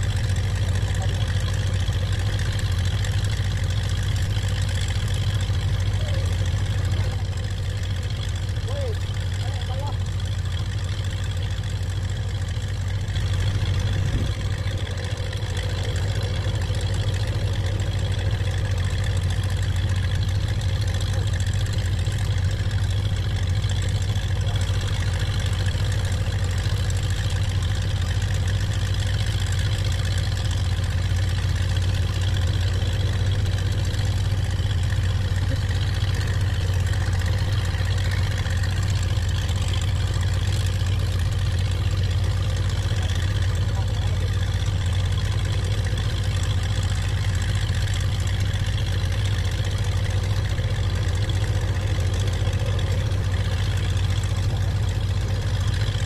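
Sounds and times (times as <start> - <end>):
low engine-like hum: 0.0 - 56.0.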